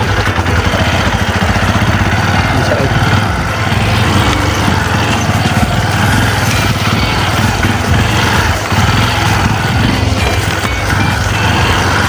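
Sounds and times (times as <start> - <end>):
small motorcycle engine chugging: 0.0 - 12.0.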